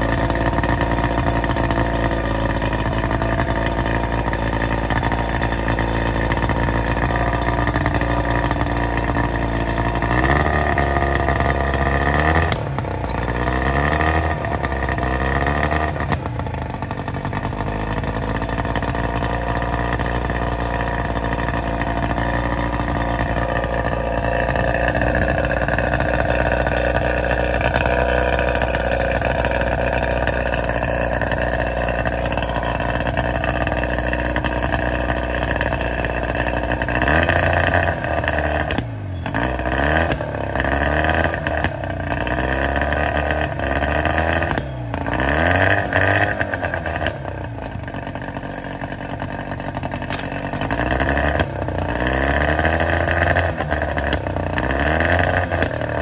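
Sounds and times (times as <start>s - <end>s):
outboard motor revving: 0.0s - 56.0s.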